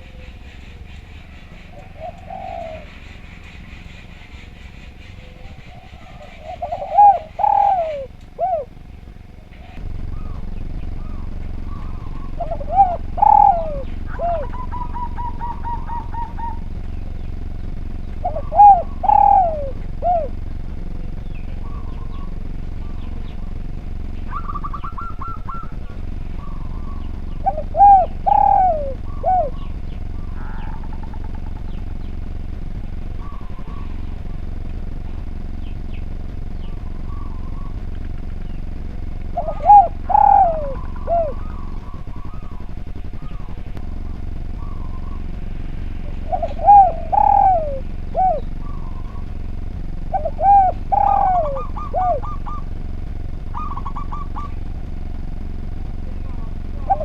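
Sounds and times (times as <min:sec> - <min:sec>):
dove cooing: 0:00.0 - 0:57.0
small birds chirping and trilling: 0:00.0 - 0:57.0
steady low hum: 0:00.0 - 0:57.0.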